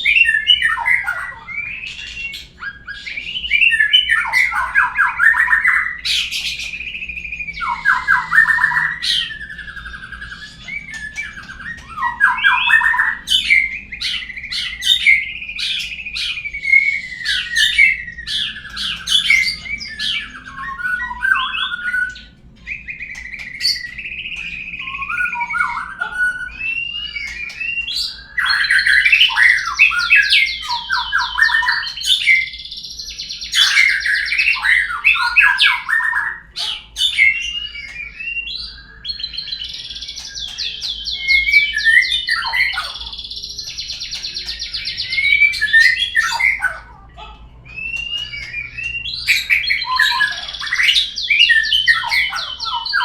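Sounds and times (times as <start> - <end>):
bird song whistles and trills: 0.0 - 53.0.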